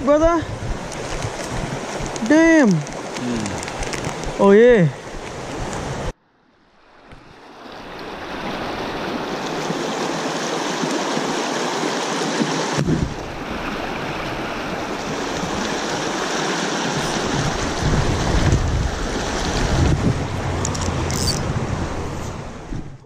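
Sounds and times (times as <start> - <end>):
creek water over rocks: 0.0 - 22.7.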